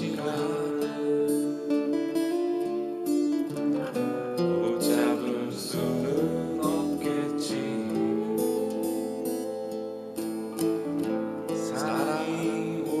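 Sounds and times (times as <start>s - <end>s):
acoustic guitar solo: 0.0s - 13.0s.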